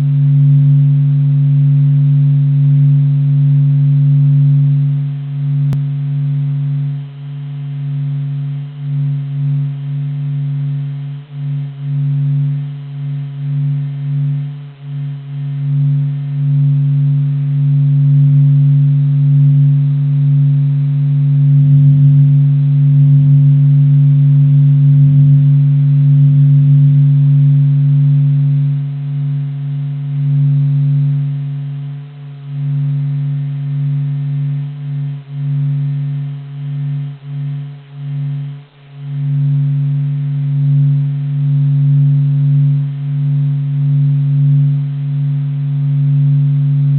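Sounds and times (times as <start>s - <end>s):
faint higher tone: 0.0s - 46.9s
steady low hum: 0.0s - 46.9s.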